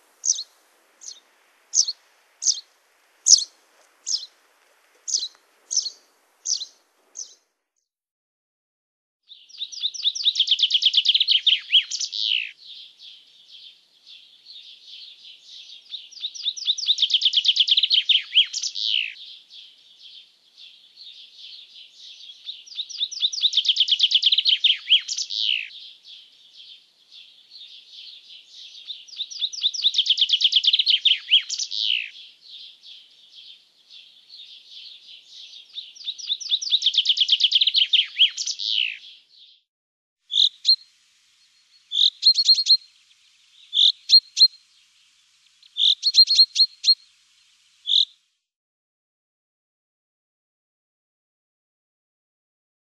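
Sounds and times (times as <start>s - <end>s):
songbird singing: 0.0s - 7.5s, 9.2s - 48.2s
bird chirps: 0.2s - 4.3s, 5.0s - 7.4s, 9.3s - 39.7s, 40.3s - 47.1s, 47.8s - 48.2s.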